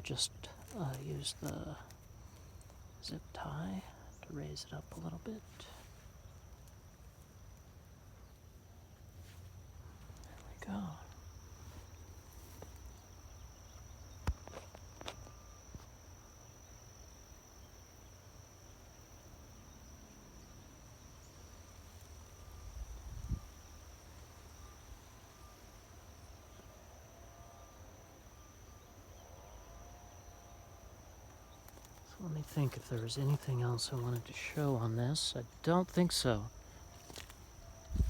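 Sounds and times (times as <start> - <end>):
high-pitched insect trill: 0.0 - 38.0.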